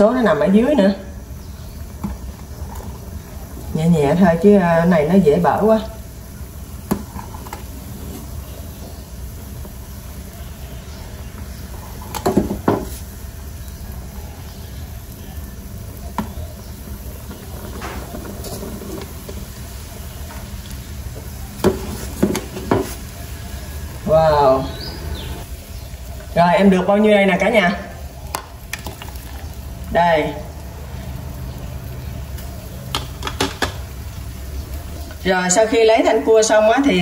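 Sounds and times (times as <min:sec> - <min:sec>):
broth simmering in a pot: 0:00.0 - 0:37.0.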